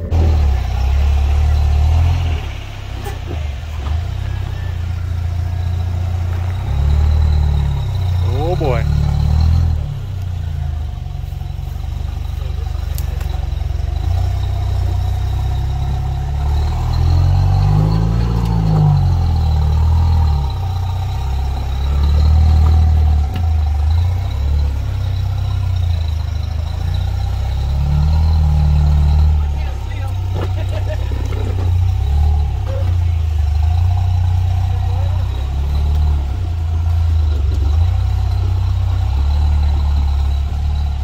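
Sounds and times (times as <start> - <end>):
engine labouring and revving: 0.0 - 41.0.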